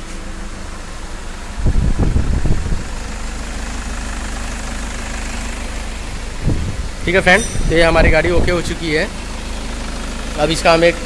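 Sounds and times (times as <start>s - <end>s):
diesel engine cranking and idling: 0.0s - 11.0s.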